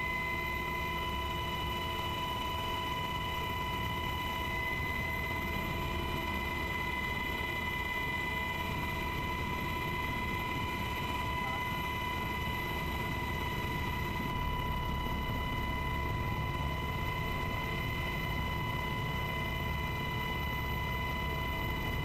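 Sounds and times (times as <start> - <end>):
high-pitched engine whine: 0.0 - 22.0.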